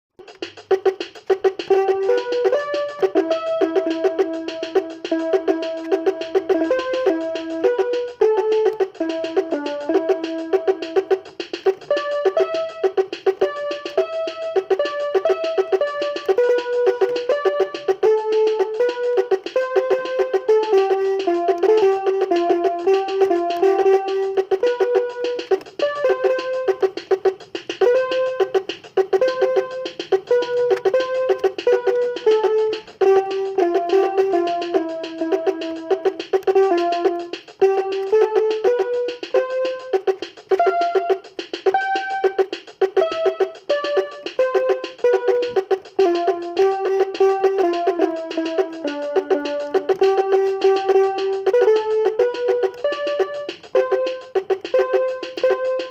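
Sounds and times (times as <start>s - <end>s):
instrumental background music: 0.2s - 55.9s.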